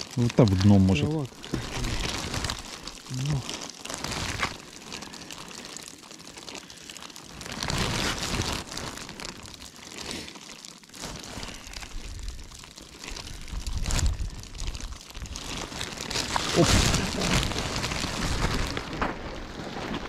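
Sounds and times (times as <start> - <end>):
crinkling crunching rustle: 0.0 - 20.0.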